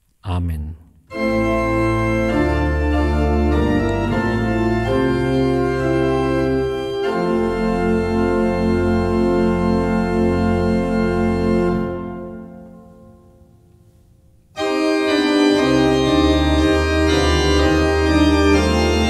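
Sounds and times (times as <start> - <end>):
church pipe organ chords: 1.1 - 13.7, 14.5 - 19.0.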